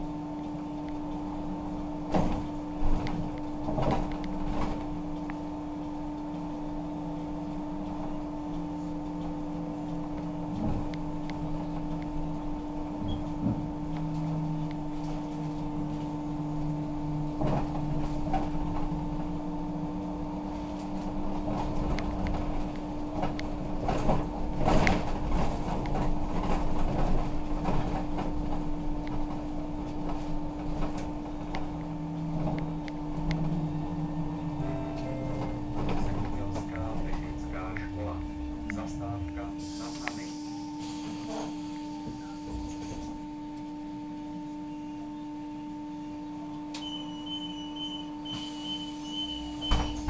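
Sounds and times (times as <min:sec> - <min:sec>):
bus running noise: 0:00.0 - 0:50.0
electrical hum: 0:00.0 - 0:50.0.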